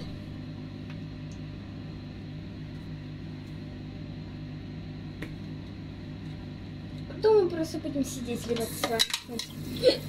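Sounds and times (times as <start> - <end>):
low mechanical hum with whine: 0.0 - 10.0.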